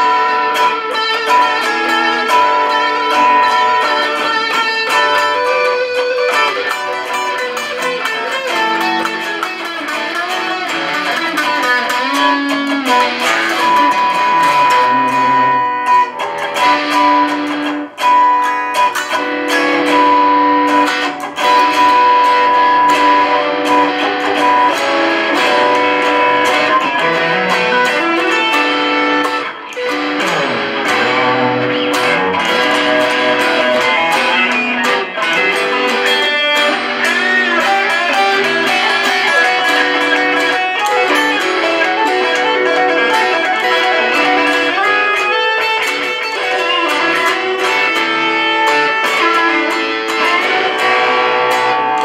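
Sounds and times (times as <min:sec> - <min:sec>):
electric guitar accompaniment: 0:00.0 - 0:52.0
electric guitar lead with bends: 0:00.0 - 0:52.0.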